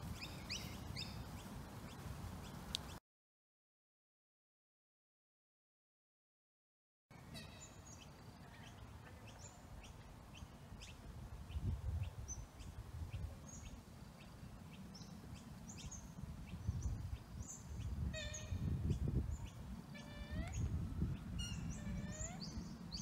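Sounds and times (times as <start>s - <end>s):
birds chirping: 0.0s - 3.0s, 7.2s - 23.0s.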